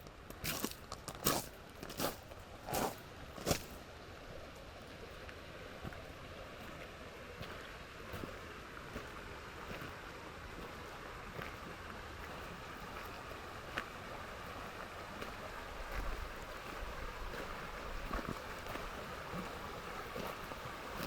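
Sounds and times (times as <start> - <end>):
river water rushing: 1.4 - 21.0.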